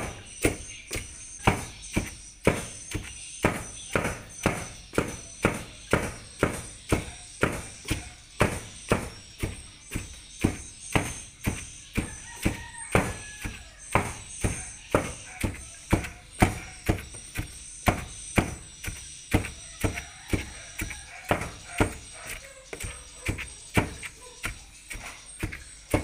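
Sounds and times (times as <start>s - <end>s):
pestle pounding dull thuds: 0.0s - 26.0s.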